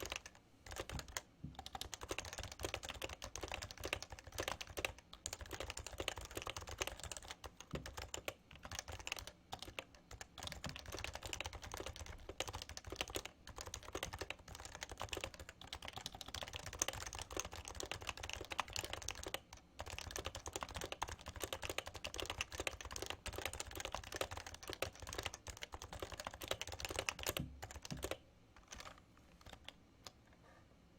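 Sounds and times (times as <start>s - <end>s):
fast keyboard typing: 0.0s - 29.8s.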